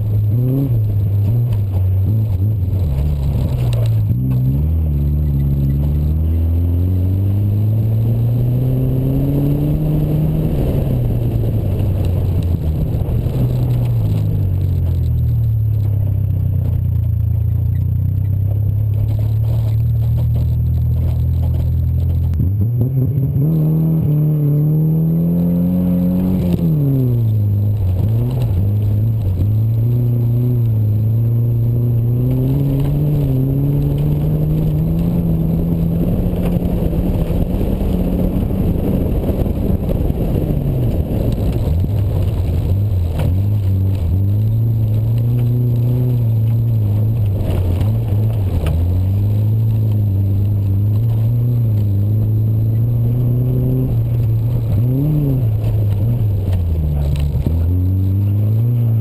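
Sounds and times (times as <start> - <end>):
car engine pulling hard: 0.0 - 59.0
tyre and wind noise: 0.0 - 59.0.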